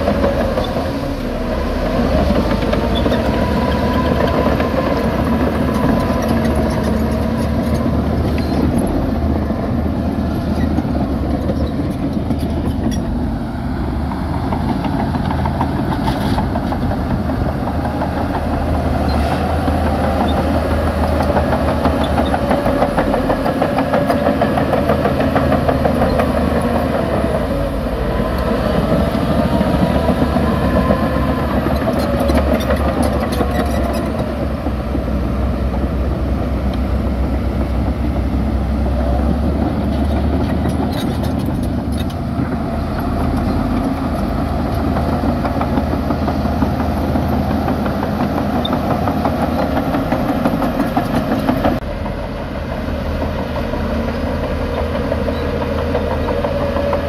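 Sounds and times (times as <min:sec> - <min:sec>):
heavy diesel engines: 0:00.0 - 0:57.0.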